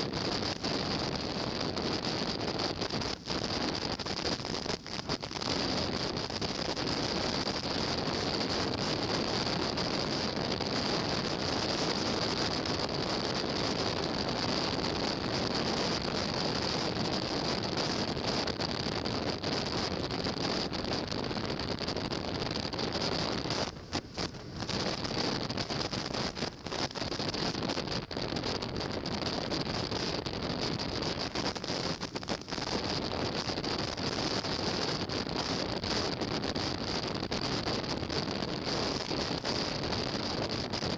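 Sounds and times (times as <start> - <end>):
wind rush on microphone: 0.0 - 40.9.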